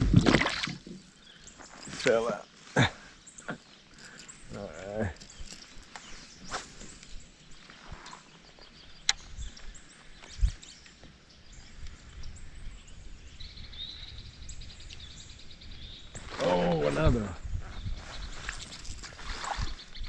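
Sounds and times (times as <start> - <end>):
faint outdoor background: 0.0 - 20.0
bird chirping: 0.8 - 20.0.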